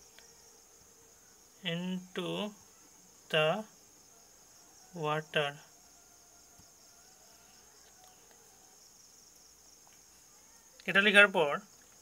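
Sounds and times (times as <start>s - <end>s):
faint high-pitched drone: 0.0s - 12.0s.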